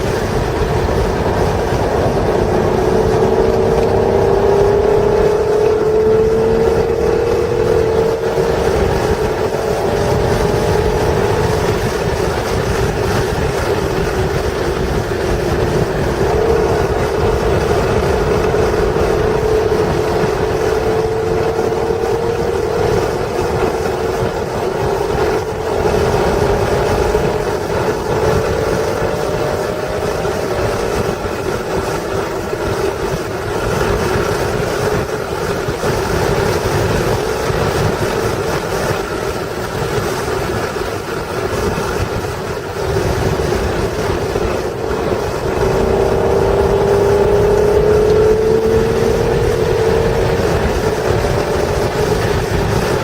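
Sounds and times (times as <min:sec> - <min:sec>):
car engine accelerating: 0:00.0 - 0:53.0
wind and road noise: 0:00.0 - 0:53.0.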